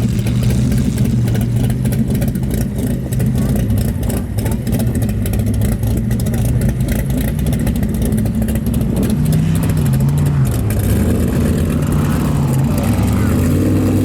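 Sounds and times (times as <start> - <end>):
race buggy engine running hard: 0.0 - 14.0.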